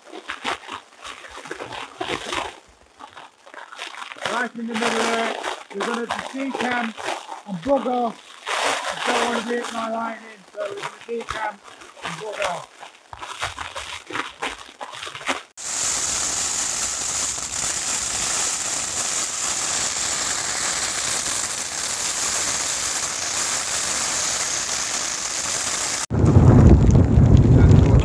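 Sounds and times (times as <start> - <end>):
plastic bags rustling: 0.0 - 26.1
heavy rain on a tent: 0.0 - 28.0.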